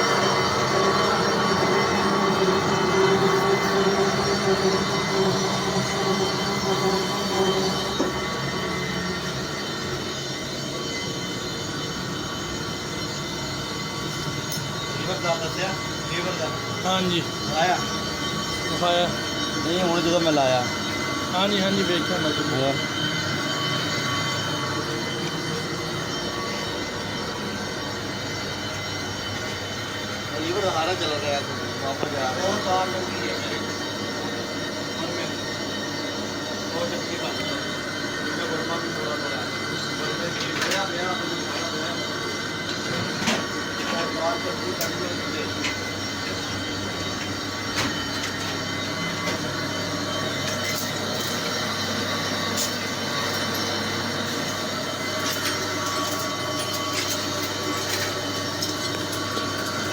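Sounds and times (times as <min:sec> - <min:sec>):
faint steady tones: 0:00.0 - 0:59.9
machine tool humming: 0:00.0 - 0:59.9
mechanical running noise: 0:00.0 - 0:59.9.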